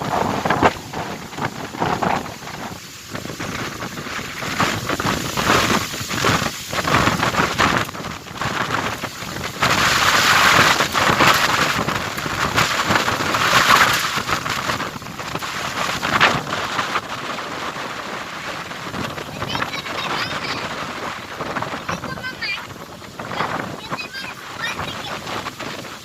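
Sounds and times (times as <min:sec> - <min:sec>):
strong gusty wind: 0:00.0 - 0:26.0.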